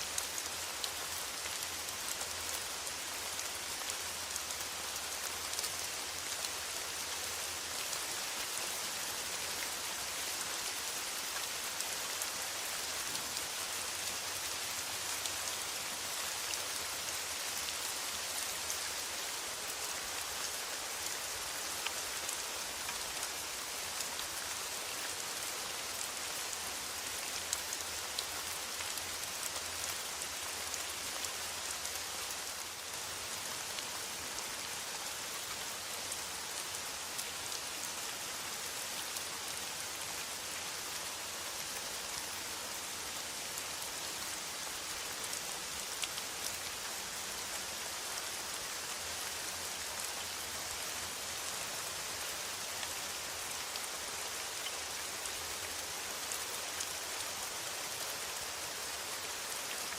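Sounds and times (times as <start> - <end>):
rain on a metal roof: 0.0 - 59.9.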